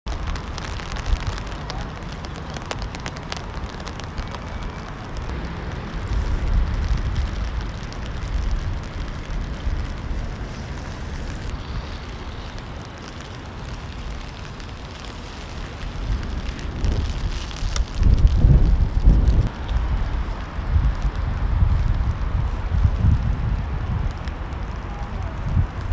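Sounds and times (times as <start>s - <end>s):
rain falling on wet pavement: 0.0s - 25.9s
wind buffeting microphone: 0.1s - 25.9s.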